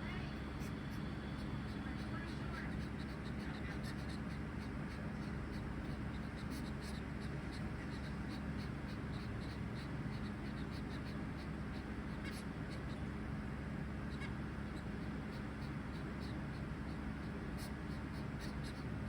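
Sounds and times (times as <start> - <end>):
finches ticking and peeping: 0.0 - 19.0
steady low hum: 0.0 - 19.0.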